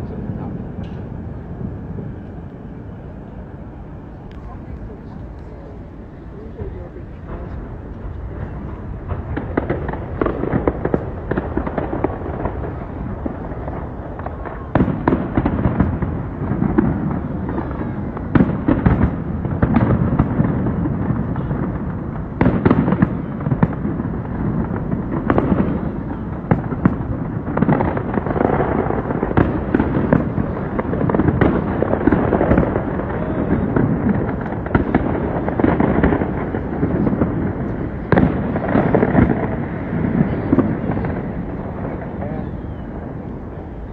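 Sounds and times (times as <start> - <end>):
fireworks rumbling and crackling: 0.0 - 43.9
sharp firework bangs: 6.6 - 43.9.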